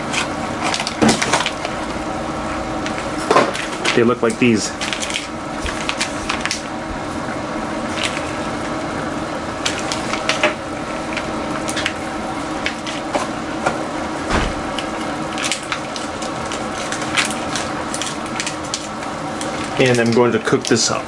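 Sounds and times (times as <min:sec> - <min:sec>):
plastic packaging crackling: 0:00.0 - 0:02.1, 0:02.8 - 0:08.8, 0:09.5 - 0:13.6, 0:14.7 - 0:21.0
steady hum: 0:00.0 - 0:21.0.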